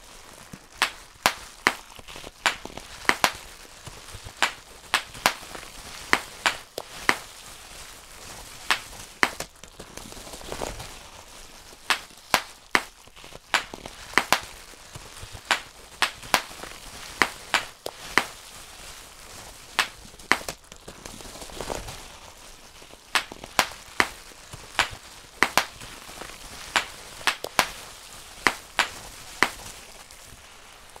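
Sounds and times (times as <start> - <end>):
bubble wrap popping: 0.0 - 31.0
plastic sheet rustling: 0.0 - 31.0.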